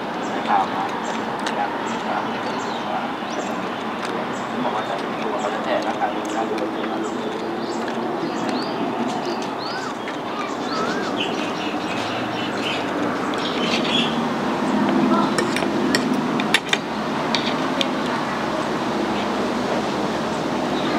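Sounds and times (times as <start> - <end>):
indistinct voices: 0.0 - 20.9.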